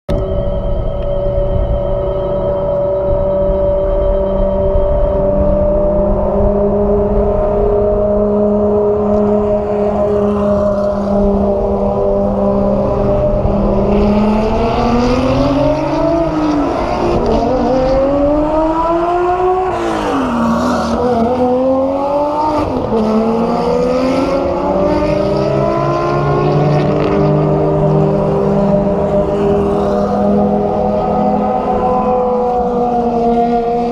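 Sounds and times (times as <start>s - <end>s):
sports car engine revving: 4.8s - 33.9s.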